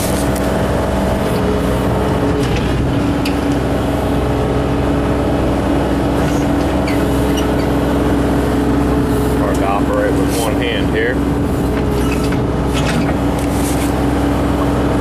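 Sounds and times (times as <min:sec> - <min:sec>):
excavator diesel engine at full throttle: 0:00.0 - 0:15.0.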